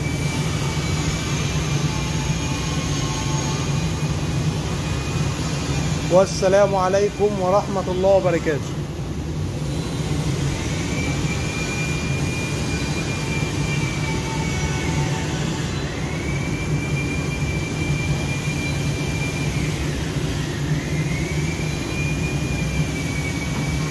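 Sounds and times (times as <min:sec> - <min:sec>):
ventilation fans whining: 0:00.0 - 0:23.9.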